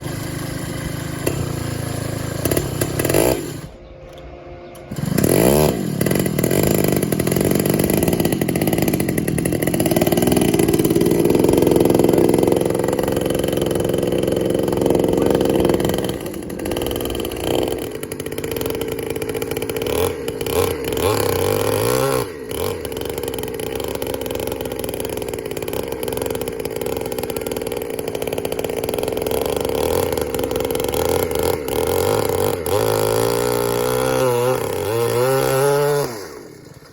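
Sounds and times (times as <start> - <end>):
two-stroke engine revving: 0.0 - 36.9.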